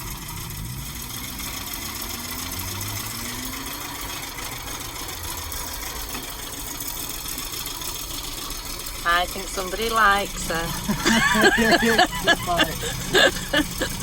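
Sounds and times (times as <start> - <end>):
car engine running: 0.0 - 14.0
road noise: 0.0 - 14.0.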